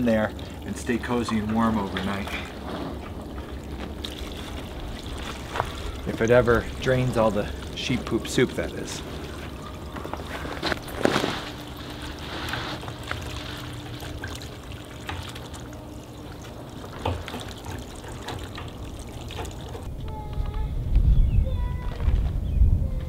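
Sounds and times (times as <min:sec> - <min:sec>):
slurry trickling and splattering on gravel: 0:00.0 - 0:19.9.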